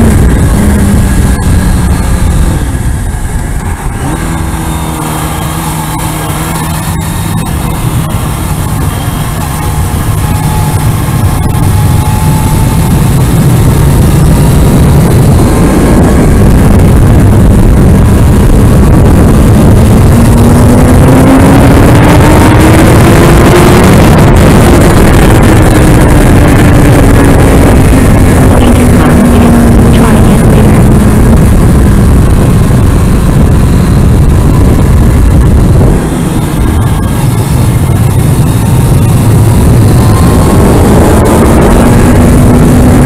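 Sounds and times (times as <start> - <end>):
motorcycle engine pulling hard: 0.0 - 43.0
wind rush on microphone: 0.0 - 43.0.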